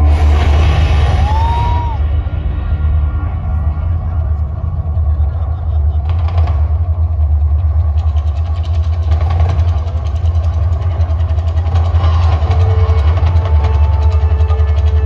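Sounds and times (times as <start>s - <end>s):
deep rumble from sound system: 0.0s - 15.0s.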